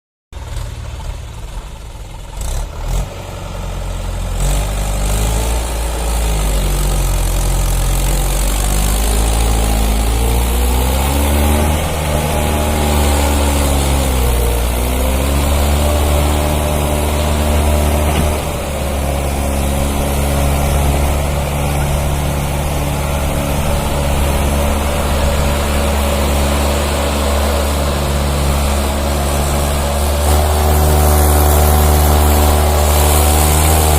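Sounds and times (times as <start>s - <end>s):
tractor diesel engine under load: 0.3s - 33.9s.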